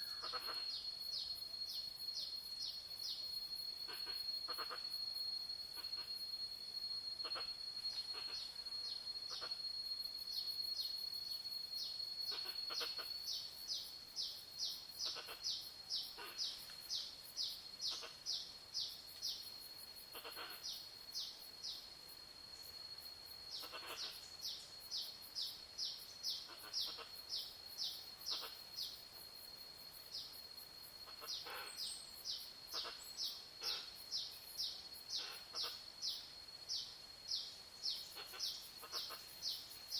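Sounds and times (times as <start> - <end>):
high-pitched insect whine: 0.0 - 39.9.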